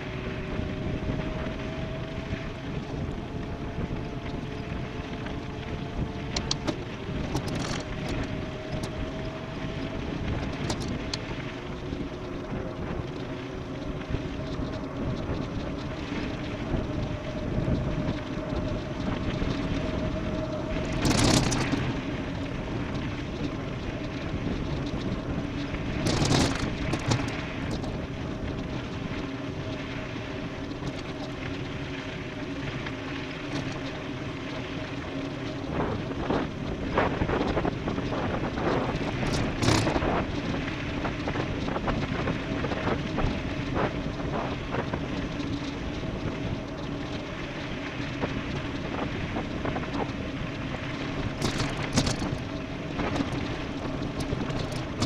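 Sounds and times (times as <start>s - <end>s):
bike tyre noise: 0.0s - 34.3s, 35.0s - 55.0s
wind rushing over microphone: 0.0s - 55.0s
bike knocking and rattling on bumps: 0.2s - 29.7s, 33.4s - 34.0s, 35.4s - 55.0s.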